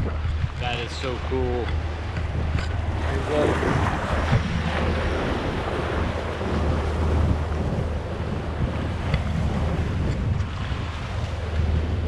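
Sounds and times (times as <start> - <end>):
low engine drone: 0.0 - 12.0
water rushing along hull: 0.0 - 12.0
wind buffeting microphone: 0.0 - 12.0.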